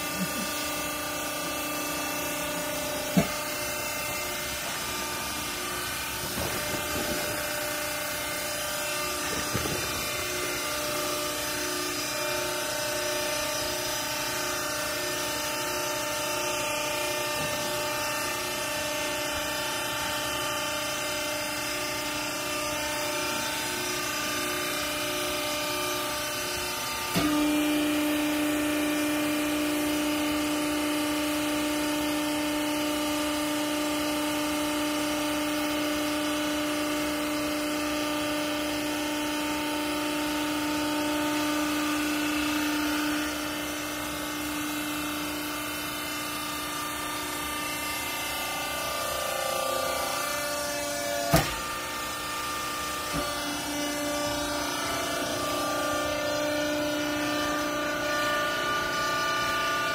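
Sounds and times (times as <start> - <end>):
hydraulic motor humming and whining: 0.0 - 59.9.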